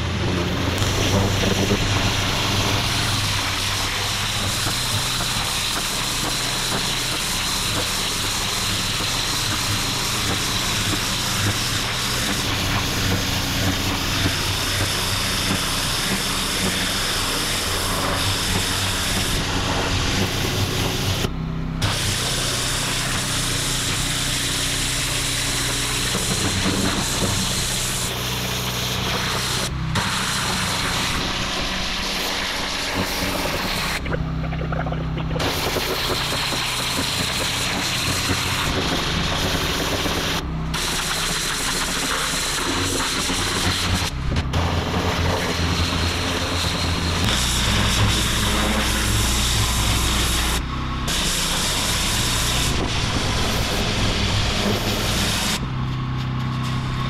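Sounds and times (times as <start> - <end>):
engine running: 0.0 - 57.0
pressure washer spraying water: 0.0 - 57.0.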